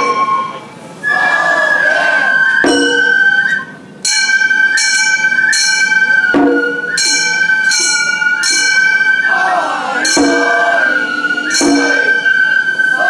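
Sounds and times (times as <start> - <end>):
small gongs clanging: 0.0 - 0.7, 2.6 - 13.0
bamboo flute melody: 0.0 - 13.0.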